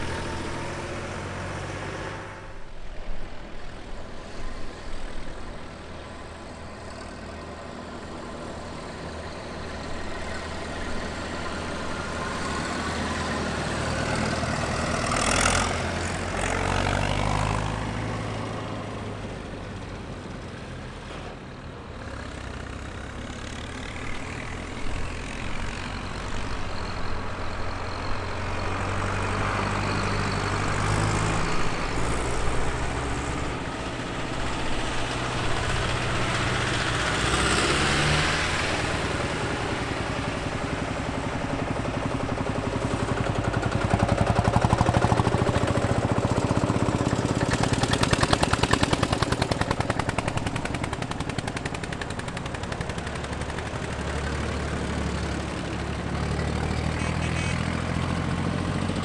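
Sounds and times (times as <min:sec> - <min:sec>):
tractor engines driving past: 0:00.0 - 0:59.0.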